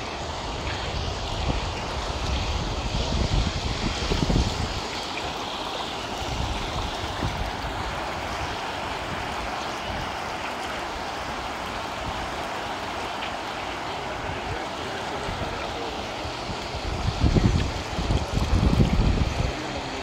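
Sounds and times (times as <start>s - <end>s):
wind rumble on microphone: 0.0s - 5.4s, 6.0s - 12.5s, 13.9s - 20.0s
river water rushing: 0.0s - 20.0s.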